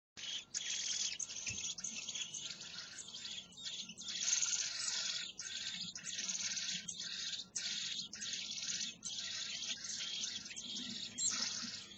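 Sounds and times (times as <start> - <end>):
nestlings begging calls: 0.2 - 11.9.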